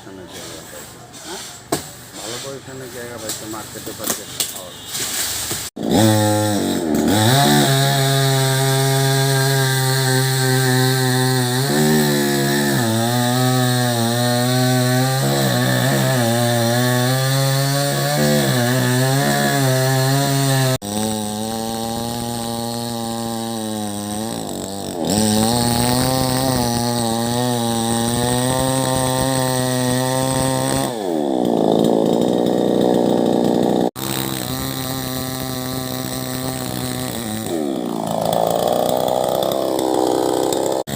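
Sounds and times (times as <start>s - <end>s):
chainsaw cutting wood: 1.2s - 40.9s.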